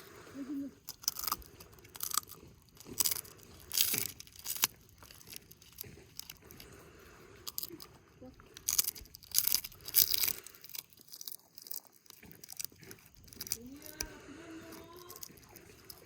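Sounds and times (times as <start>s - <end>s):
dog chewing crunchy treat: 0.0s - 16.0s.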